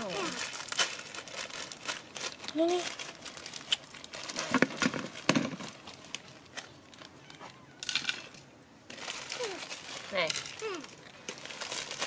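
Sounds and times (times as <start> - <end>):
dry noodles cracking: 0.0 - 12.0
plastic packet crinkling: 0.0 - 12.0.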